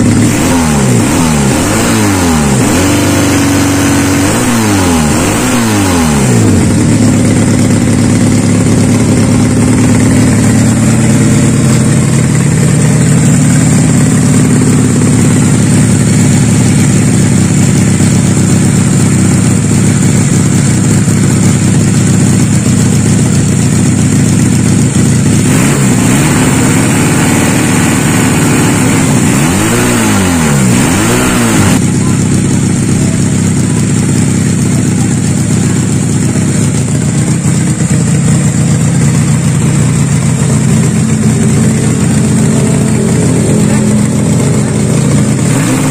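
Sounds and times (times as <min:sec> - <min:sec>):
motorcycle engine running: 0:00.0 - 0:45.9
motorcycle throttle blips: 0:02.6 - 0:45.9.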